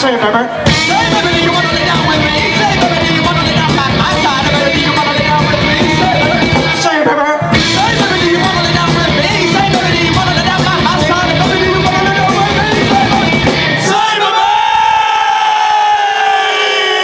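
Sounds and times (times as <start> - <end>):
live rock band playing: 0.0 - 14.3.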